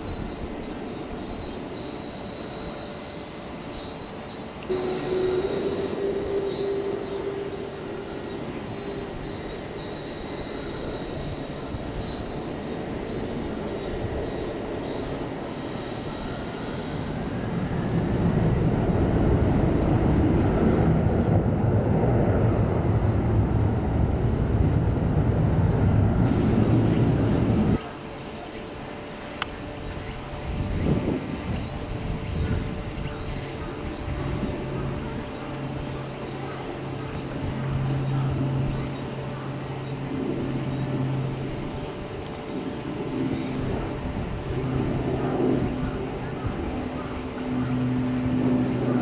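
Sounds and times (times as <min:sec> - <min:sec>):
insects chirping: 0:00.0 - 0:49.0
jet engines roaring on takeoff: 0:04.6 - 0:27.8, 0:29.4 - 0:49.0.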